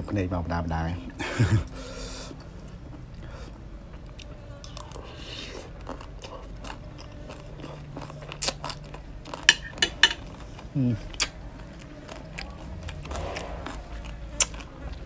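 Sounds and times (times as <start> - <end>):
wet chewing with crunches: 2.4 - 15.0.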